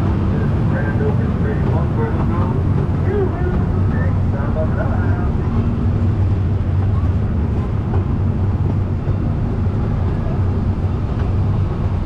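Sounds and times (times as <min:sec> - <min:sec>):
ride vehicle rumbling on track: 0:00.0 - 0:12.0.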